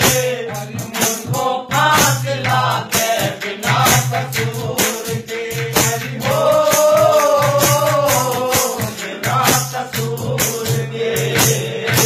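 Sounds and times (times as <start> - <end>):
rhythmic percussion strokes: 0.0 - 12.0.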